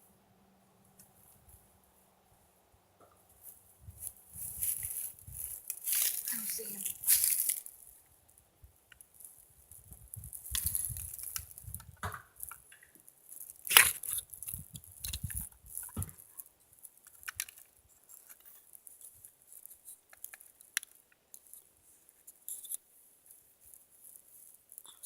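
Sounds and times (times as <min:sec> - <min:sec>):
crunching through dry grass: 0:03.3 - 0:08.4, 0:09.0 - 0:25.0.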